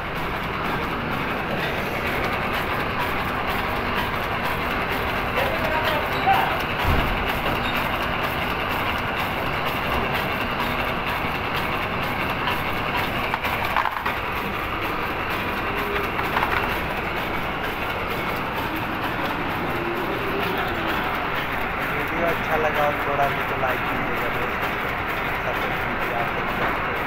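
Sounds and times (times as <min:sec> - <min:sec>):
wrapping machine clattering: 0:00.1 - 0:27.0.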